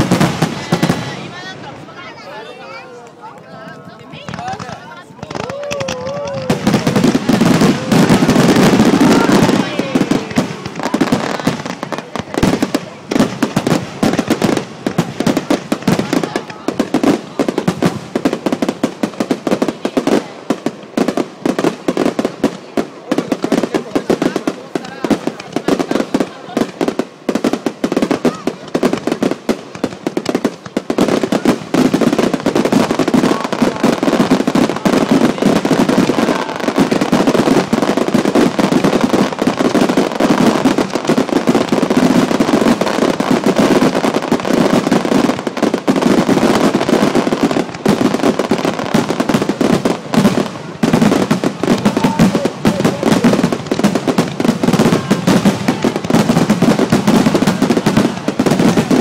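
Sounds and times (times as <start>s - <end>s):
fireworks booming and crackling: 0.0s - 59.0s.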